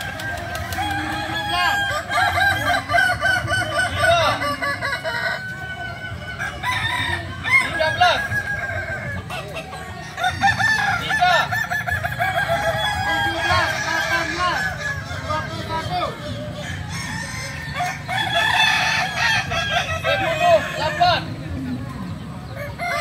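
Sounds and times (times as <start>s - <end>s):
roosters crowing: 0.0s - 23.0s.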